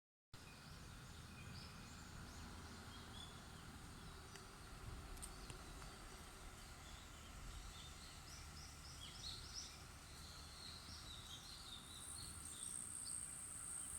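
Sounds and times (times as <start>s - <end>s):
distant birds chirping: 0.4s - 13.9s
low background rumble: 0.5s - 12.8s.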